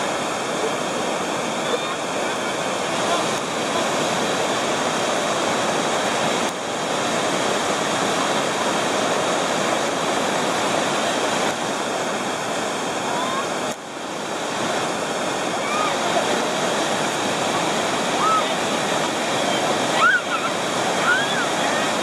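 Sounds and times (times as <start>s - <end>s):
waterfall rushing over rock: 0.0s - 22.0s.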